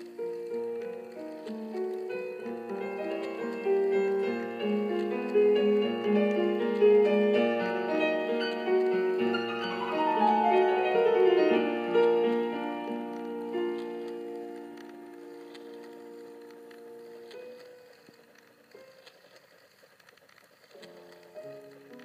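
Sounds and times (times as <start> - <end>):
piano music: 0.0 - 19.6, 20.5 - 22.0.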